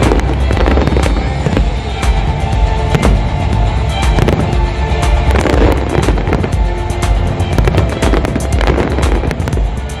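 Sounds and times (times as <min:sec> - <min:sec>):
fireworks bursting and crackling: 0:00.0 - 0:10.0
loud music with held notes: 0:00.0 - 0:10.0.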